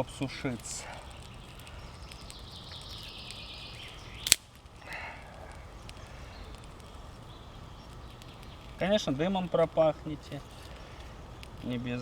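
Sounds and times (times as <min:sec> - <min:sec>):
firewood rustling hiss: 0:00.0 - 0:12.0
firewood scraping: 0:00.0 - 0:12.0
wood cracking: 0:00.0 - 0:12.0.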